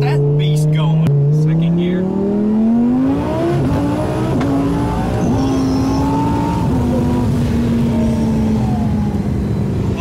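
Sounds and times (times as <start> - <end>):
car engine full-throttle pull: 0.0 - 10.0.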